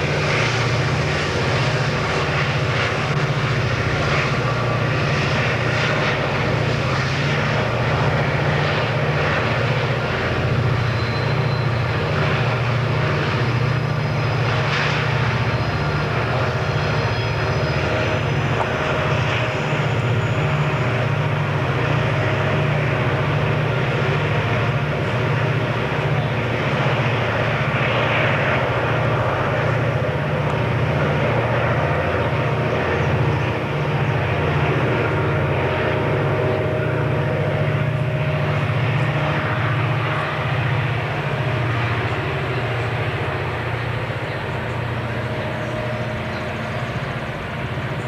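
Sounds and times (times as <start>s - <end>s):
locomotive engines droning: 0.0s - 48.0s.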